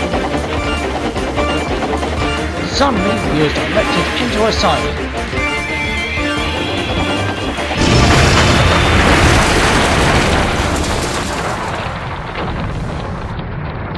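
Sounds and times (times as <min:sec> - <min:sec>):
dramatic music: 0:00.0 - 0:12.1
loud crash boom rumbling: 0:01.4 - 0:13.9.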